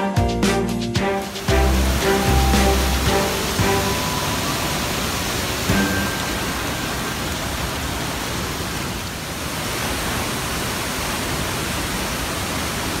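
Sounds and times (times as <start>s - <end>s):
water pouring over rocks: 1.2s - 13.0s.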